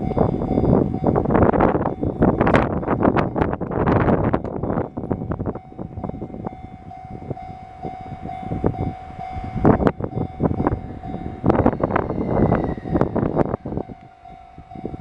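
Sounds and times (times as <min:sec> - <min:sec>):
steady train tone: 0:00.0 - 0:15.0.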